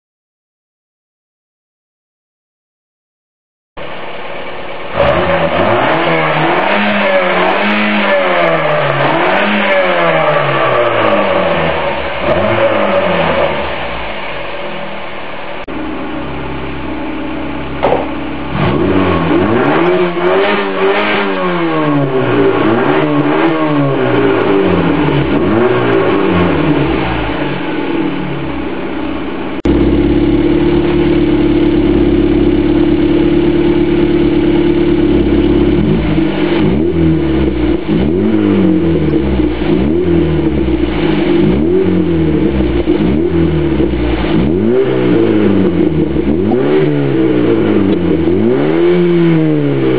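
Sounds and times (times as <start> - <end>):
car engine revving: 4.4 - 49.9.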